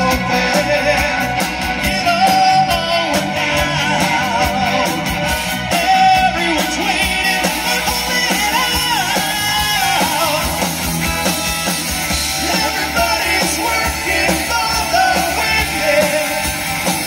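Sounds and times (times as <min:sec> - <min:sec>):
person singing: 0:00.0 - 0:11.0, 0:12.2 - 0:17.0
live rock band playing: 0:00.0 - 0:17.0.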